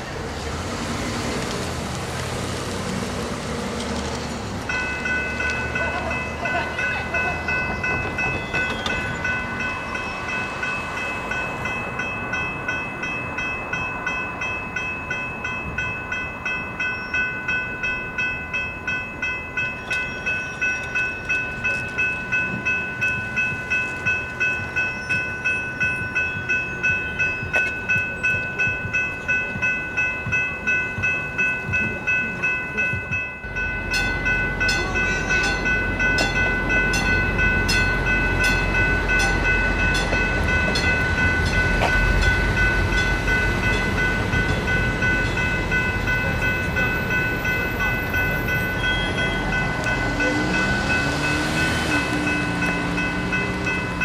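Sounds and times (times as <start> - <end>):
diesel railcar rumble: 0.0 - 54.0
railroad crossing bells ringing: 4.3 - 54.0.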